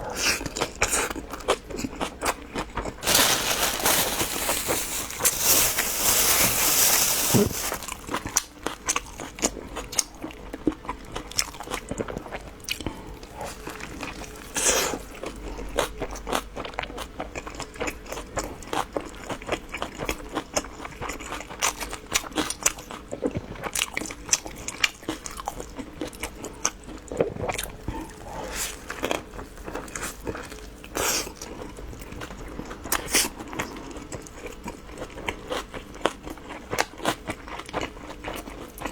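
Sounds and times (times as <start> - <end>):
crunchy food chewing: 0.1 - 38.9.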